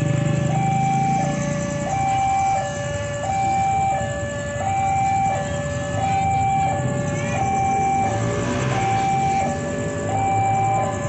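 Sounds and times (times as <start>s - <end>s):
two-tone crossing alarm: 0.0s - 11.0s.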